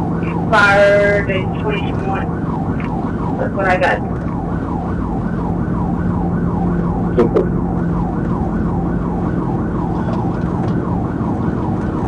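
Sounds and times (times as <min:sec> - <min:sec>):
car engine and road noise: 0:00.0 - 0:12.0
police siren yelping: 0:00.0 - 0:12.0.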